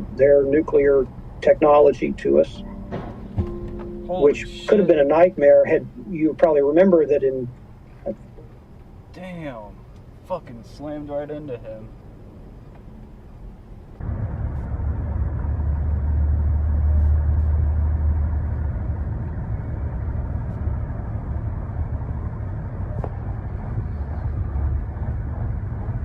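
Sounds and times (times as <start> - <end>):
car driving low rumble: 0.0 - 26.0
road noise: 0.0 - 26.0.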